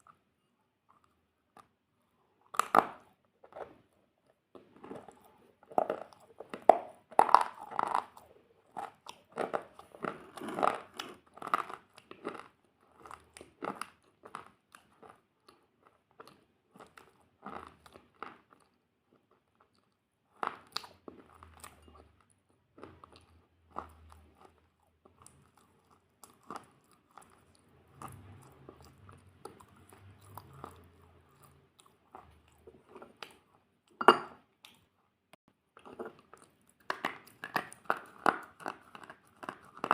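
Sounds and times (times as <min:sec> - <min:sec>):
crunchy food being chewed: 0:00.8 - 0:01.8, 0:02.4 - 0:39.9.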